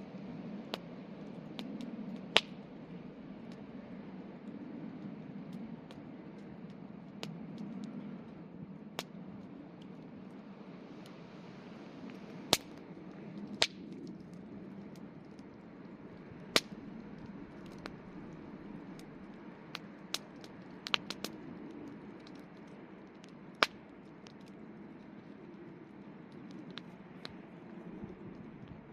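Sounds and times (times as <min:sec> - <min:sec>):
campfire burning: 0:00.0 - 0:28.9
fire pops and crackles: 0:00.1 - 0:28.9.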